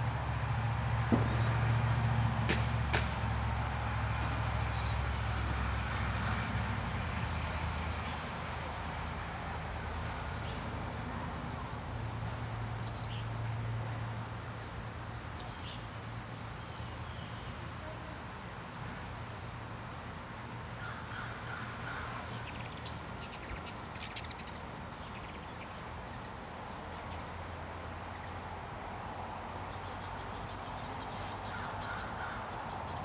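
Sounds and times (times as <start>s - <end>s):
light road traffic rumble: 0.0s - 33.0s.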